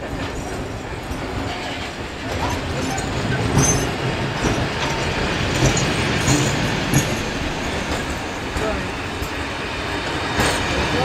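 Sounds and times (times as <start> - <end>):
train wheels rumbling on track: 0.0 - 11.0
wheels clacking over rail joints: 0.0 - 11.0.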